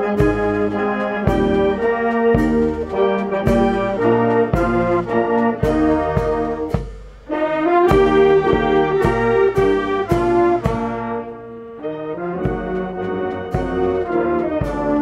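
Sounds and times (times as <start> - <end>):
steady drum beat: 0.0 - 11.5, 12.2 - 15.0
brass band playing chords: 0.0 - 15.0.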